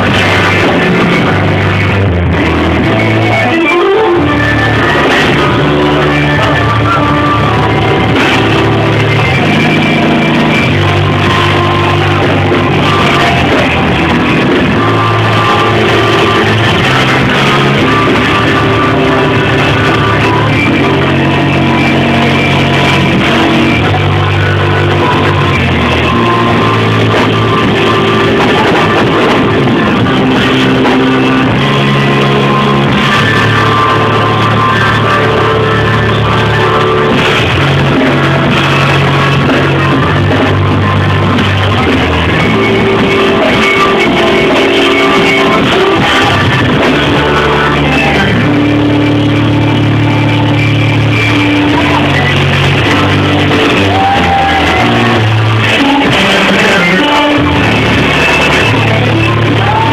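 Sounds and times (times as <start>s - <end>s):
live band playing loud music: 0.0s - 59.9s.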